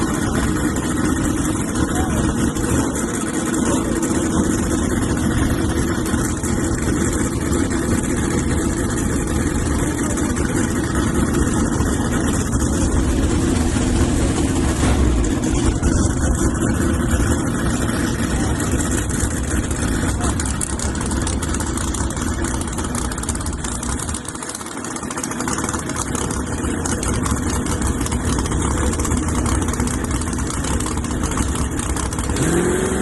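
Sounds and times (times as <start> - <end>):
truck engine idling loudly: 0.0 - 33.0.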